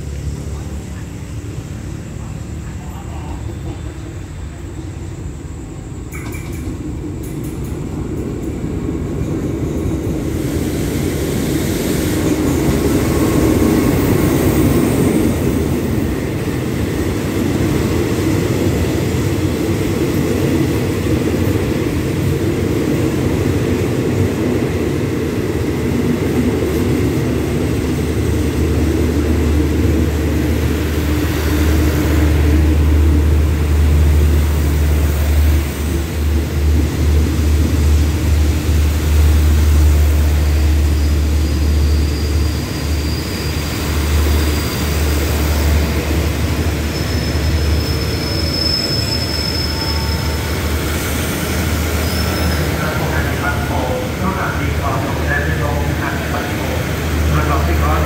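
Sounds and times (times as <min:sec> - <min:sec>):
diesel locomotive engine: 0:00.0 - 0:58.0
train coaches rumbling past: 0:00.0 - 0:58.0.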